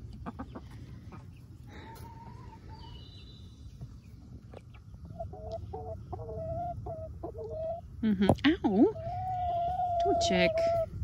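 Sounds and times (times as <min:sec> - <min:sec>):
hen clucking: 0:00.0 - 0:11.0.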